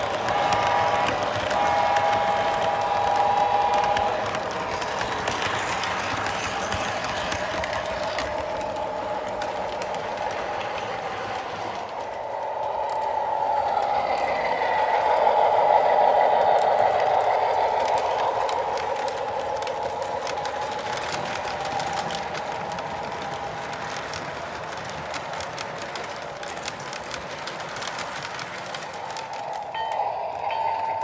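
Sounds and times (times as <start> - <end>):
faint locomotive whine: 0.0 - 31.0
model train wheels clattering: 0.0 - 31.0.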